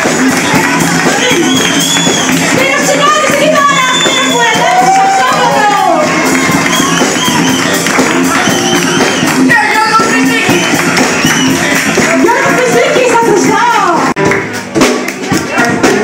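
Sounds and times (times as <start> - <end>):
guitar: 0.0 - 16.0
steady percussion beat: 0.0 - 16.0.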